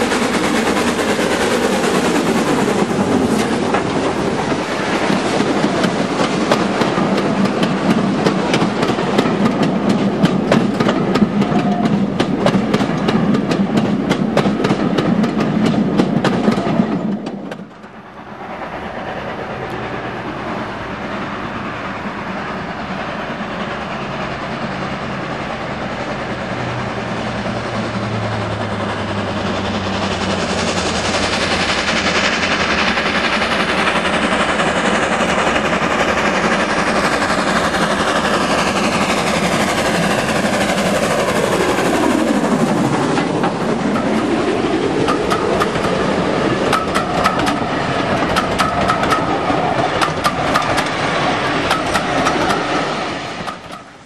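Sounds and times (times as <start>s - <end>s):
wheels clacking over rail joints: 0.0s - 18.1s, 23.6s - 54.0s
steam locomotive approaching: 0.0s - 54.0s.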